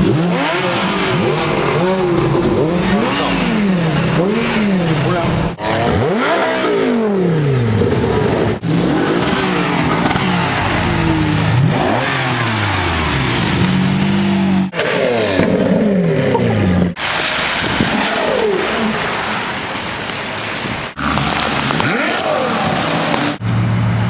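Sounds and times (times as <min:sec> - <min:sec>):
sports car engines revving: 0:00.0 - 0:17.2, 0:20.9 - 0:24.0.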